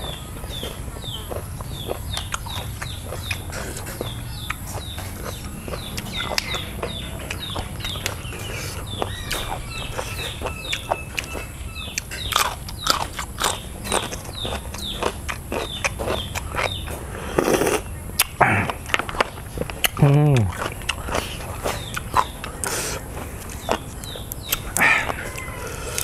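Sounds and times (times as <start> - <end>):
wet clicks and smacks of chewing: 0.0 - 26.0.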